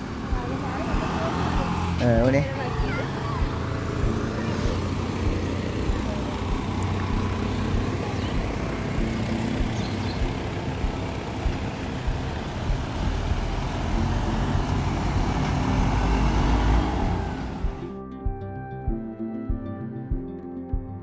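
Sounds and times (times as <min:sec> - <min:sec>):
motorbike engine: 0:00.0 - 0:17.9
three-wheeler engine: 0:00.0 - 0:17.9
lorry engine rumble: 0:00.0 - 0:18.0.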